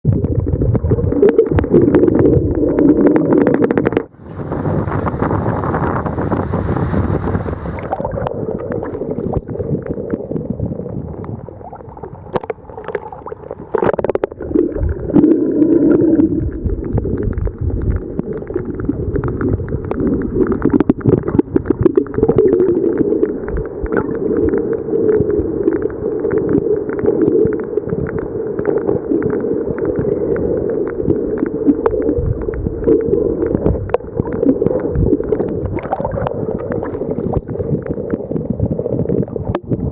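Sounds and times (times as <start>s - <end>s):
watery rush: 0.1s - 39.9s
whale clicks underwater: 0.1s - 39.9s.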